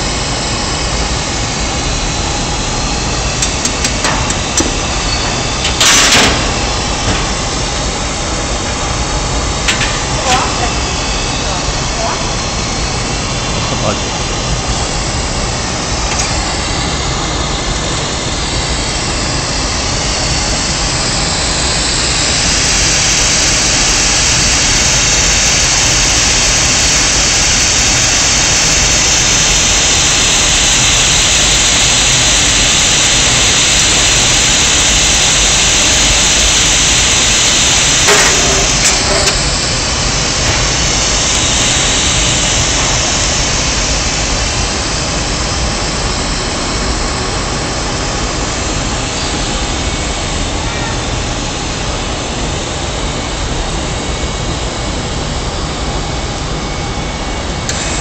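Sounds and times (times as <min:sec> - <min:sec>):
furnace burners and blowers roaring: 0:00.0 - 0:58.0.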